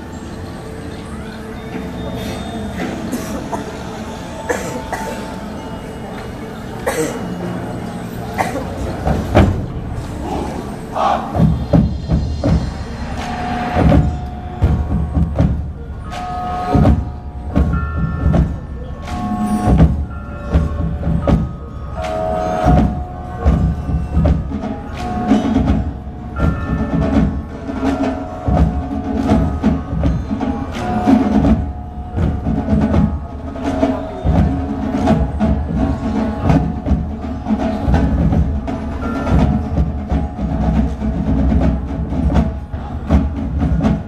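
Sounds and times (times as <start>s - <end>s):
mallet percussion ringing notes: 0.0s - 44.0s.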